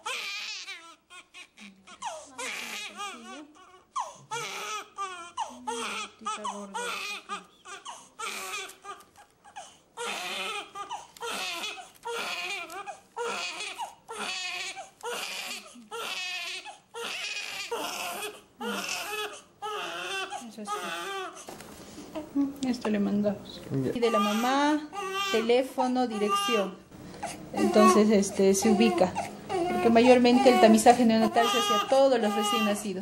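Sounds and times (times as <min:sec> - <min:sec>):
newborn baby crying: 0:00.0 - 0:21.5, 0:23.9 - 0:33.0.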